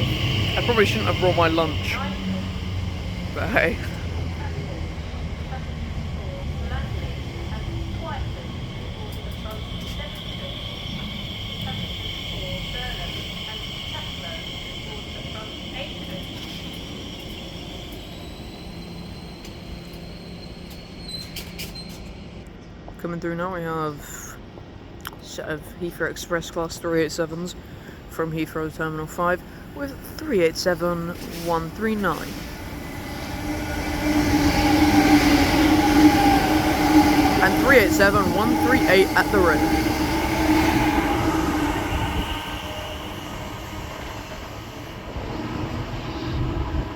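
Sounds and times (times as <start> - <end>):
high whine from rails: 0.0 - 22.5, 29.6 - 46.9
train low rumble: 0.0 - 46.9.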